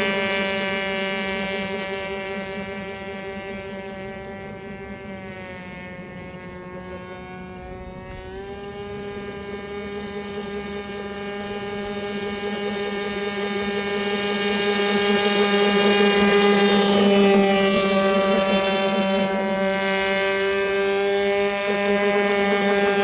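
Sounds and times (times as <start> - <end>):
model boat engine droning: 0.0 - 23.0.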